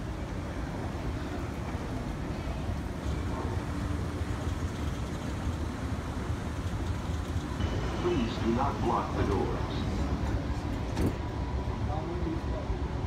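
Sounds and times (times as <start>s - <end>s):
low rumble of terminal hall: 0.0s - 13.0s.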